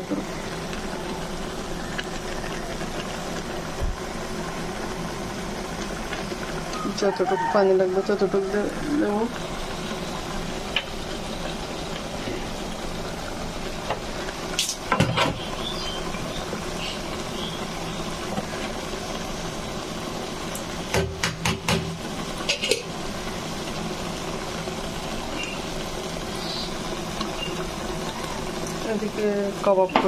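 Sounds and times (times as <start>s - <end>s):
food sizzling in a pot: 0.0s - 30.0s.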